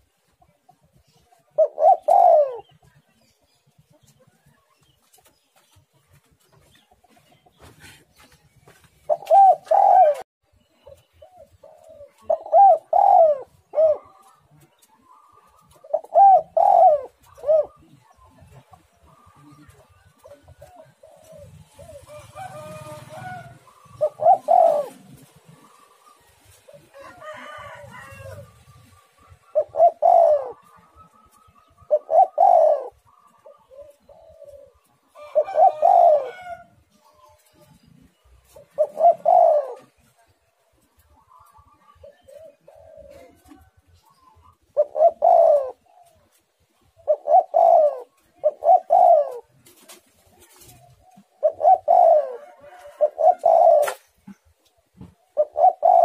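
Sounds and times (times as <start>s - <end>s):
dove cooing: 0.0s - 4.4s, 7.0s - 56.0s.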